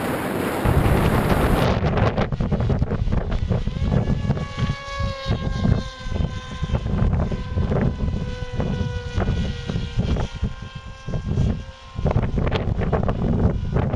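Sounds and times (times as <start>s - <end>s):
model glider electric motor whine: 0.0s - 13.9s
wind buffeting microphone: 0.0s - 13.9s.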